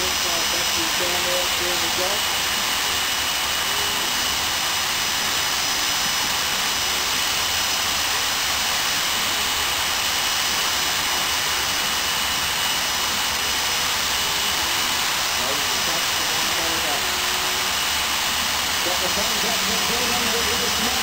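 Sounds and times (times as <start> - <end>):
turbojet engine roaring with whine: 0.0 - 21.0.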